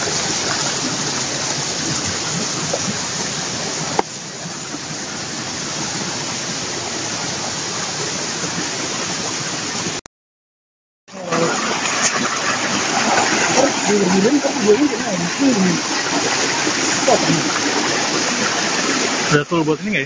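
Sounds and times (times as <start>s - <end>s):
running water in a stream: 0.0s - 10.1s, 11.1s - 20.0s.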